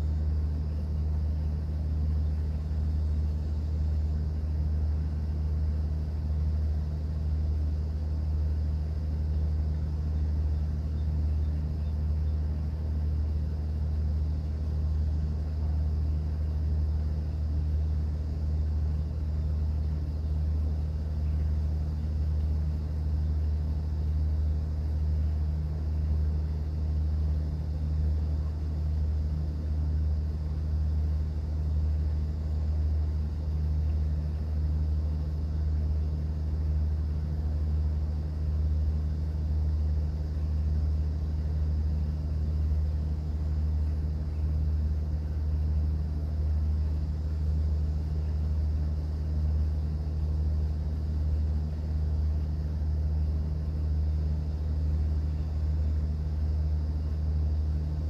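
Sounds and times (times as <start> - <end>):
boat engine drone: 0.0 - 58.0.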